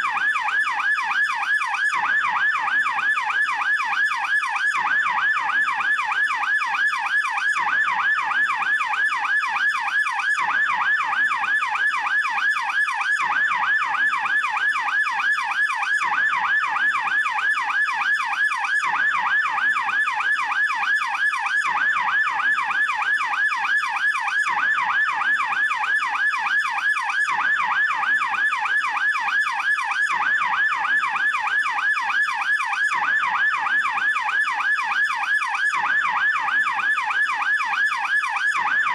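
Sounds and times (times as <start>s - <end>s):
police yelp siren wailing: 0.0s - 38.9s.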